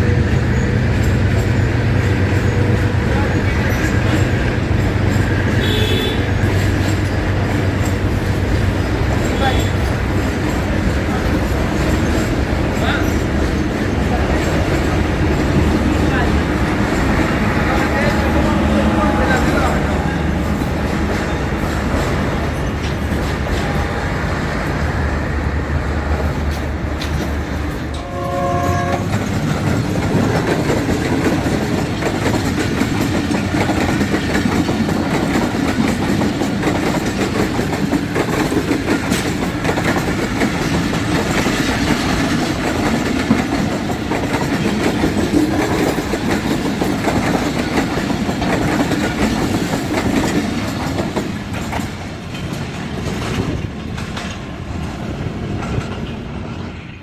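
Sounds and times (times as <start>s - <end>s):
train wheels clattering: 0.0s - 24.8s, 26.0s - 57.0s.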